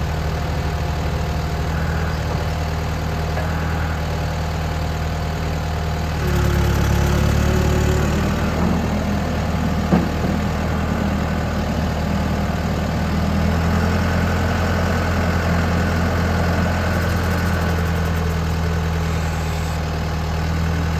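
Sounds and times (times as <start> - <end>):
tractor diesel engine idling: 0.0 - 20.9.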